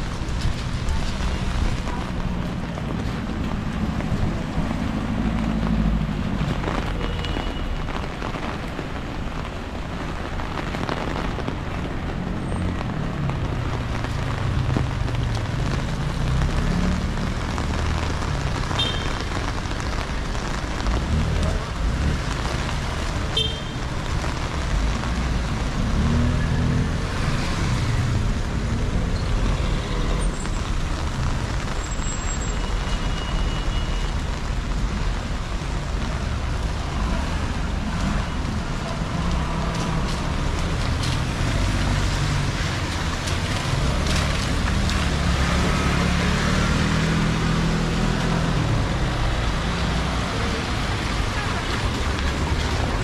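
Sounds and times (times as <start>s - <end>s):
cars passing: 0.0s - 33.2s, 34.1s - 53.0s.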